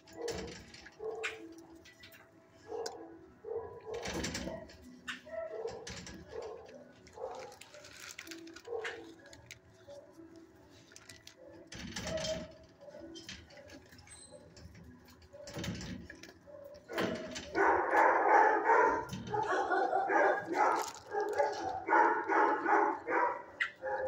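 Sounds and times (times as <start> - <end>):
dogs barking and yelping: 0.0 - 24.0.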